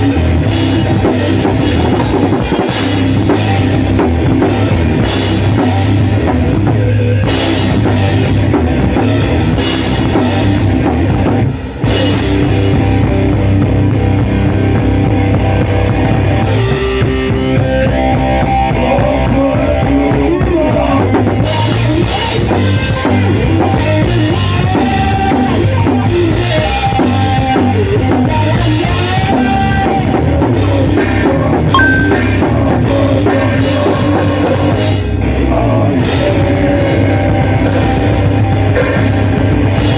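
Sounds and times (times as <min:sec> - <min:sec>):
hardcore punk band playing: 0:00.0 - 0:39.9.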